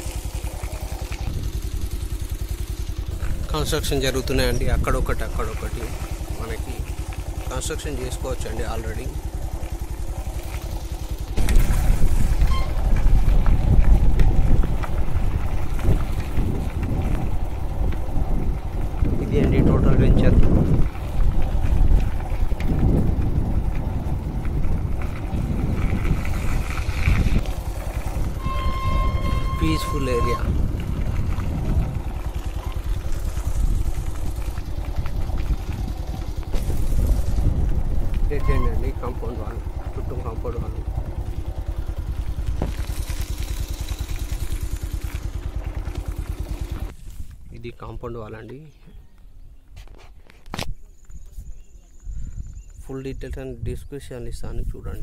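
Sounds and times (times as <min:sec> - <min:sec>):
vehicle engine running: 0:00.0 - 0:49.7
wind buffeting microphone: 0:00.9 - 0:47.7, 0:50.4 - 0:55.0.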